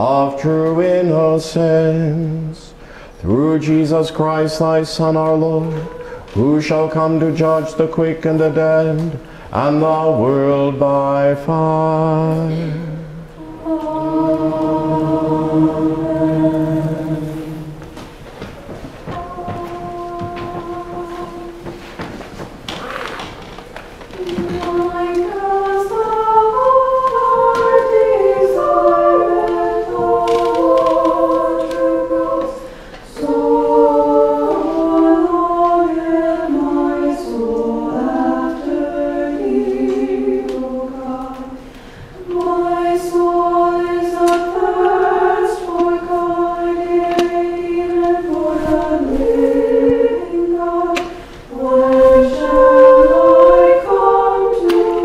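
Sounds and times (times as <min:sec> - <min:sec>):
choir singing a cappella: 0:00.0 - 0:22.2, 0:24.1 - 0:55.0.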